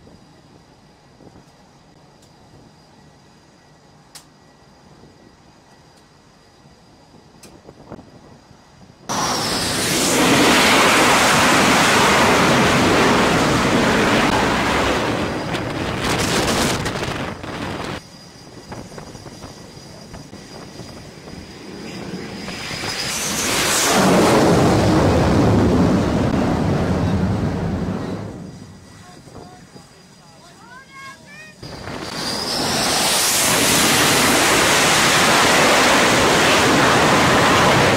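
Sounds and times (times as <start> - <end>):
high turbine whine: 0.0 - 37.9
jet engines roaring: 0.0 - 37.9.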